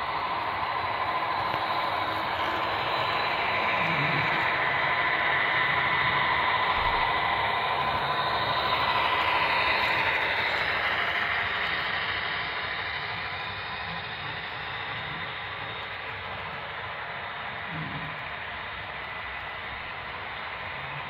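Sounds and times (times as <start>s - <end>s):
faint steady whine: 0.0s - 21.0s
model train whirring and rumbling: 0.0s - 21.0s.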